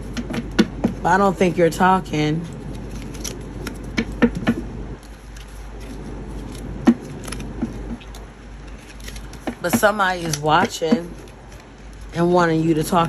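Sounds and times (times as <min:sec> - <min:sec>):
cards being shuffled: 0:02.4 - 0:13.0.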